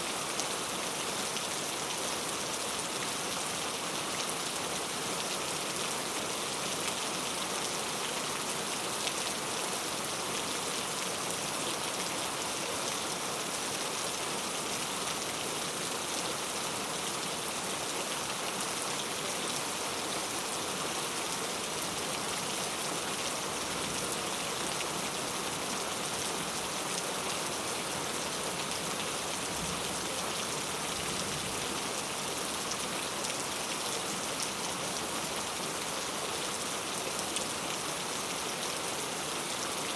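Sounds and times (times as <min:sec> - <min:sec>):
heavy rain on hard street: 0:00.0 - 0:39.9.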